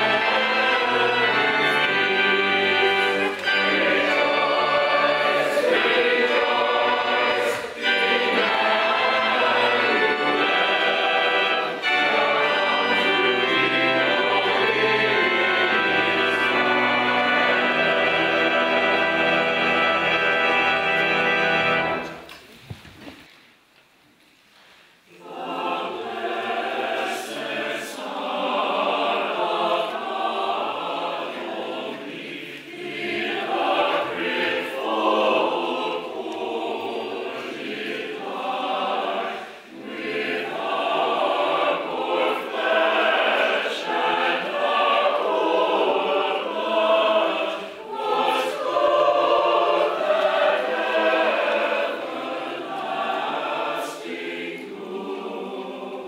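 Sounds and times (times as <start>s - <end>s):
church choir singing: 0.0s - 22.3s, 25.1s - 56.0s.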